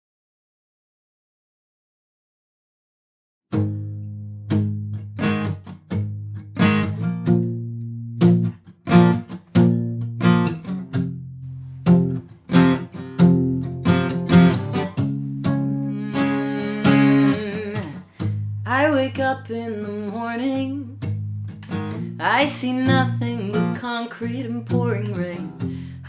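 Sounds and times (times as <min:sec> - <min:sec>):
acoustic guitar strumming: 0:03.5 - 0:26.0.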